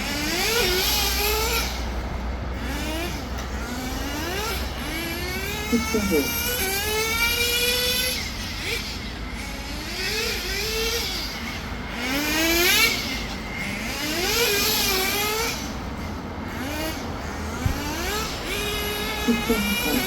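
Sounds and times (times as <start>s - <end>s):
model car engine revving: 0.0s - 20.0s.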